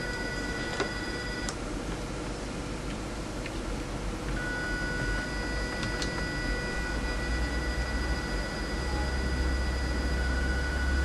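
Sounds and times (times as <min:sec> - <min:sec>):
computer fan whirring: 0:00.0 - 0:11.0.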